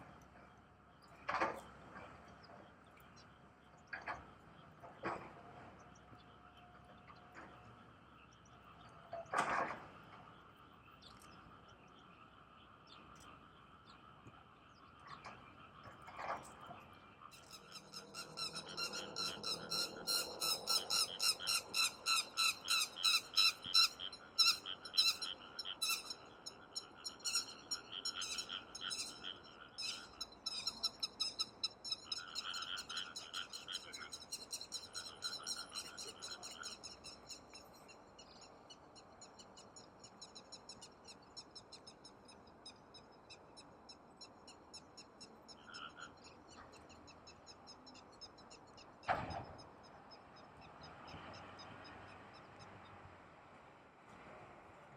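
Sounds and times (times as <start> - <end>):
frogs croaking: 0.1 - 53.6.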